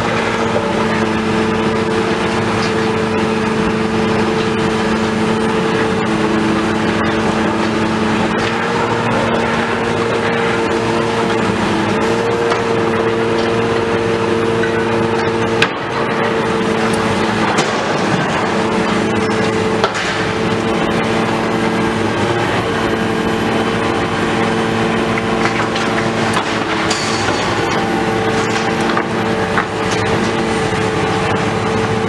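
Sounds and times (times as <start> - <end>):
diesel machinery engine drone: 0.0 - 32.0.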